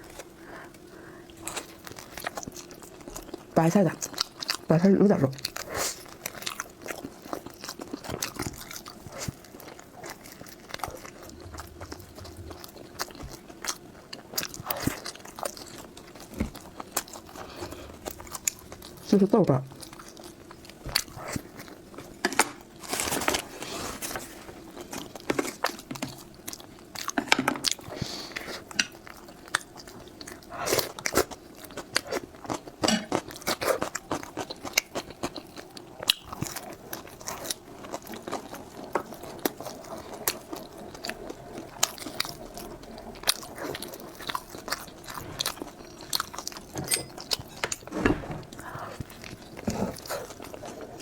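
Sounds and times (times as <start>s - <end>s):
person chewing crunchy food: 0.0s - 4.7s, 5.3s - 51.0s.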